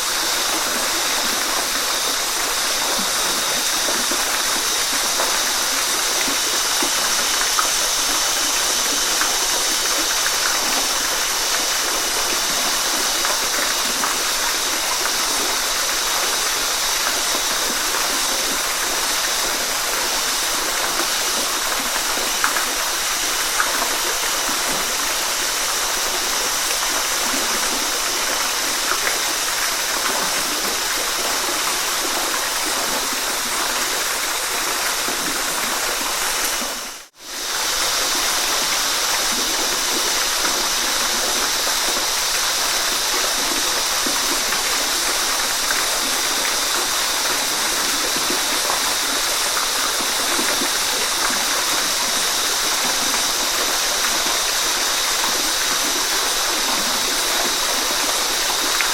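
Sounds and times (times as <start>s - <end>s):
waterfall rushing and splashing: 0.0s - 58.9s.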